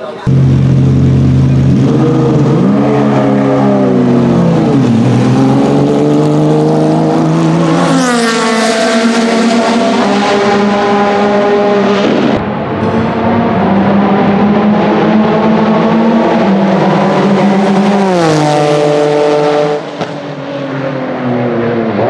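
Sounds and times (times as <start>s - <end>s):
race car engine revving: 0.2s - 22.0s.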